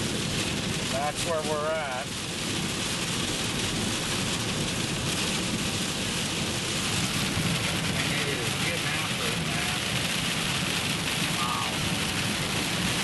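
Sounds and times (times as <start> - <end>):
heavy rain on a car: 0.0 - 13.0
road and engine rumble: 0.0 - 13.0.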